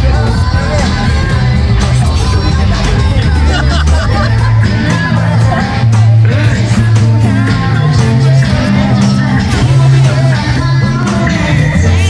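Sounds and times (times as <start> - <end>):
loud music with deep bass: 0.0 - 12.0
person singing: 0.0 - 12.0.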